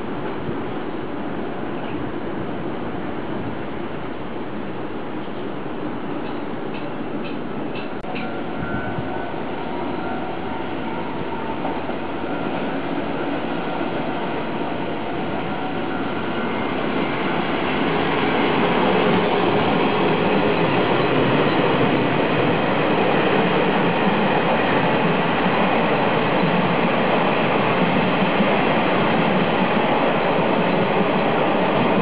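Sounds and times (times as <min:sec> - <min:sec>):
wheels rumbling on rail: 0:00.0 - 0:32.0.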